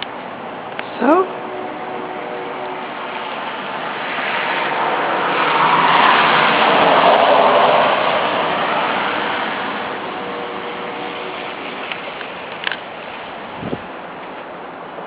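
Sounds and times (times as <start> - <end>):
car tyres hissing on wet road: 0.1 - 15.0.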